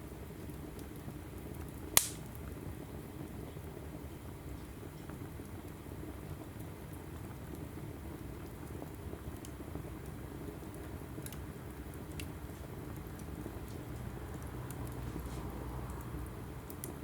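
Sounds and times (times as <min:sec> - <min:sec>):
fire crackling: 0:00.0 - 0:17.0
flames rushing: 0:00.1 - 0:17.0.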